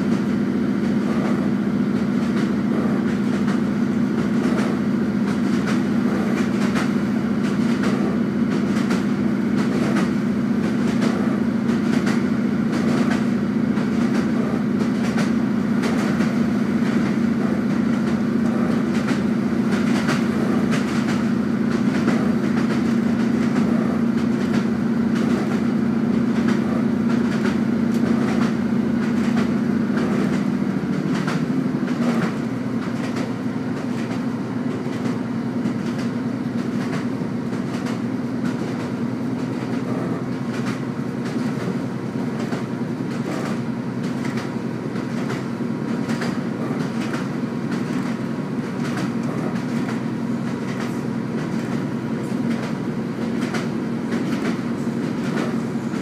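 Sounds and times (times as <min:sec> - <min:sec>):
train engine drone: 0:00.0 - 0:56.0
wheels clicking over rails: 0:00.0 - 0:56.0.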